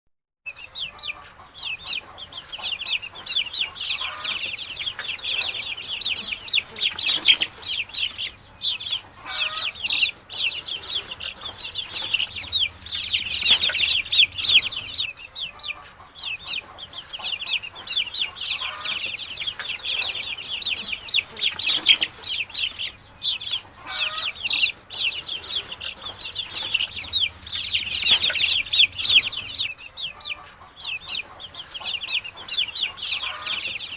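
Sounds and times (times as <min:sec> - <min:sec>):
chicks peeping: 0:00.5 - 0:33.9
hen clucking: 0:00.5 - 0:33.9.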